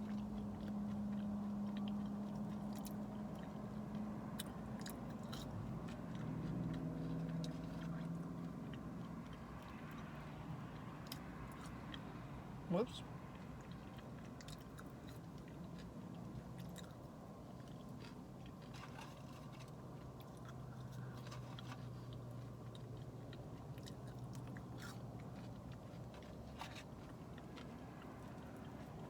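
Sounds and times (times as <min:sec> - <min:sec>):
crunching and chewing food: 0:00.0 - 0:29.0
faint low hum: 0:00.0 - 0:29.0.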